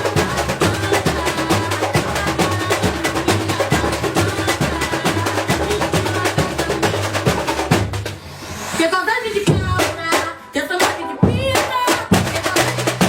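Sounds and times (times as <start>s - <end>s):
percussion-driven music: 0.0s - 13.0s.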